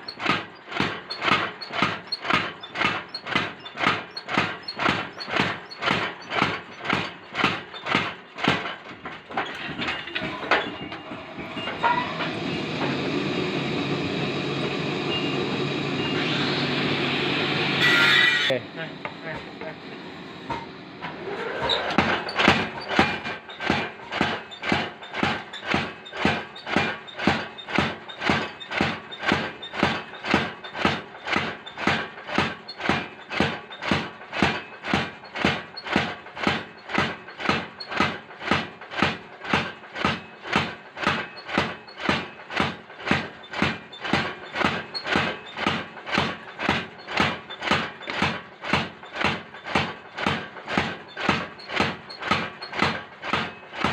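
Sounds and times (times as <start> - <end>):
power hammer striking metal: 0.1 - 19.8, 20.4 - 53.9.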